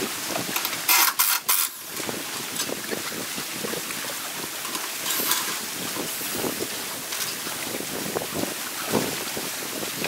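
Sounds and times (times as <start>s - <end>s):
rushing water: 0.0s - 10.0s
wind noise: 0.0s - 10.0s.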